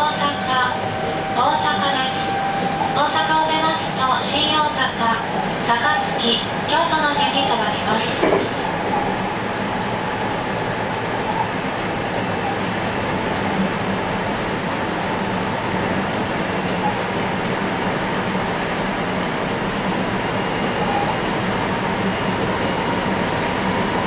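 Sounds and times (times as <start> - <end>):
faint train whine: 0.0 - 24.0
wheels rumbling on rail: 0.0 - 24.0.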